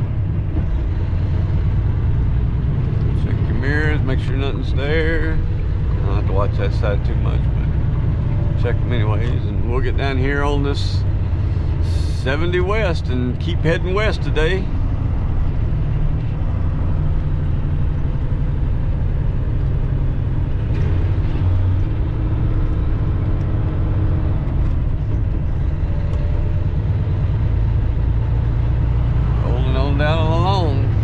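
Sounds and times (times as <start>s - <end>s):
truck engine rumble in cab: 0.0s - 31.0s.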